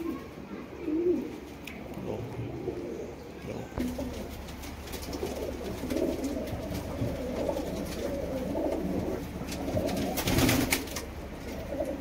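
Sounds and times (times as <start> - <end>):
pigeon cooing: 0.0 - 12.0.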